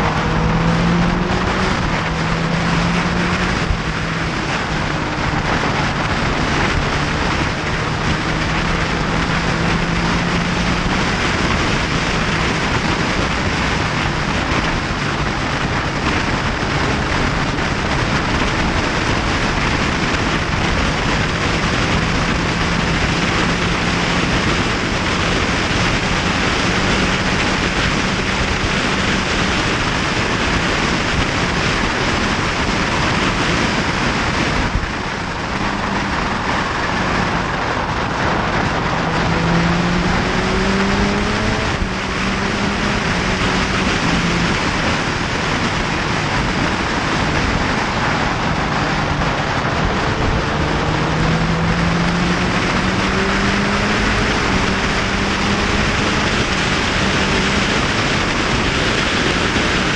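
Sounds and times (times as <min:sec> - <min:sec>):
motorcycle engine hum: 0:00.0 - 0:59.9
wind rush on microphone: 0:00.0 - 0:59.9.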